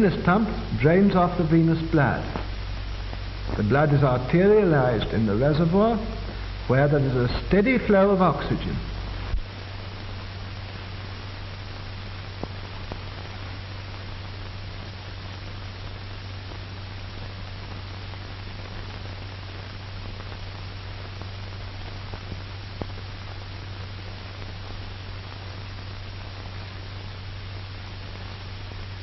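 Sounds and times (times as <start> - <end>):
low mains hum: 0.0 - 29.0
steady hiss: 0.0 - 29.0.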